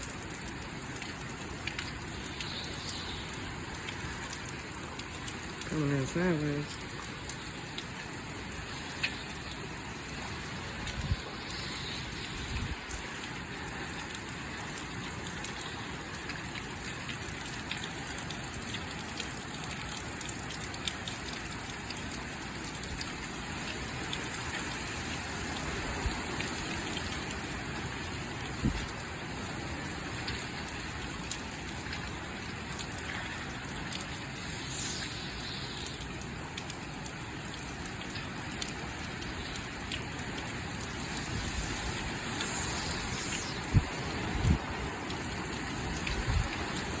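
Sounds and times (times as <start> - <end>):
heavy wind-driven rain: 0.0 - 47.0.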